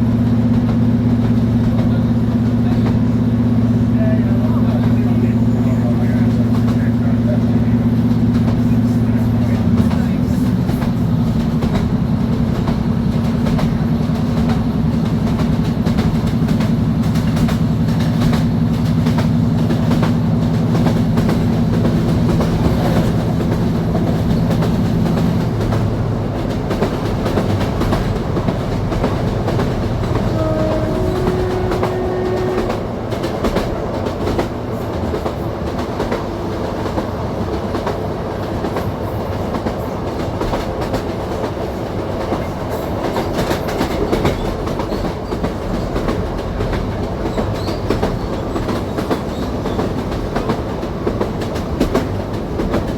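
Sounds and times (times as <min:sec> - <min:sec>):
train diesel engine running: 0:00.0 - 0:52.9
wheels clicking over rail joints: 0:07.6 - 0:52.9.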